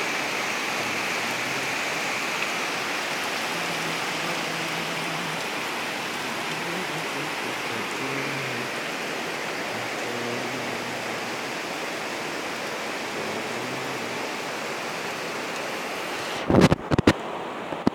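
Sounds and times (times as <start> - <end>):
steady rainfall: 0.0 - 17.9.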